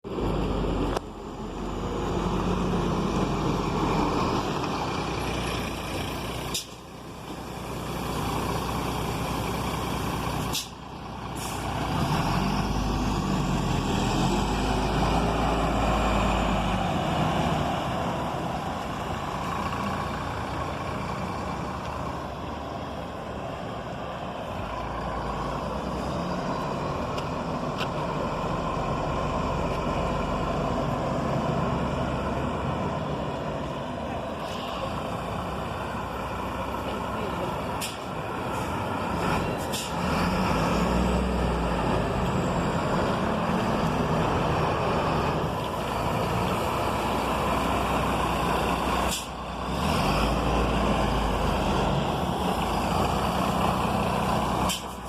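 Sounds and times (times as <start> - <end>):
coach diesel engine pulling: 0.1 - 55.0.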